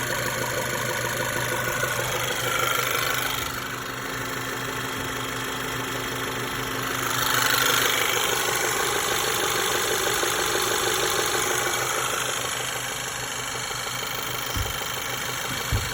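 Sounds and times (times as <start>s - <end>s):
car engine knocking: 0.0s - 15.9s.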